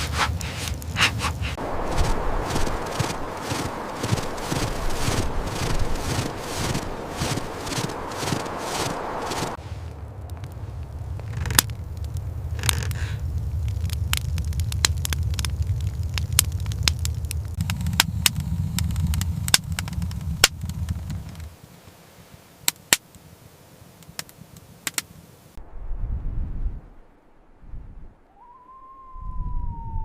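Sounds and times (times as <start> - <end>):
wood fire crackling: 0.0 - 25.3
low rumble: 0.1 - 21.5, 25.6 - 30.0.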